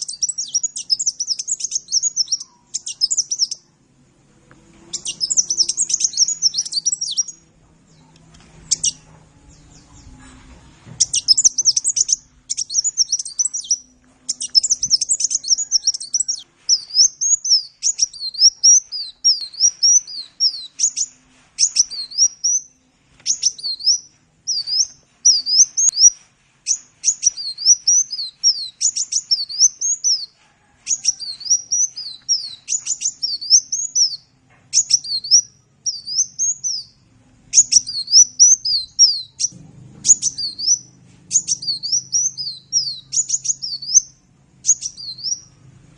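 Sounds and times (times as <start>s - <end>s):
bird high twittering song: 0.0s - 3.7s, 4.8s - 45.6s
faint low hum: 0.0s - 26.0s, 30.4s - 45.9s.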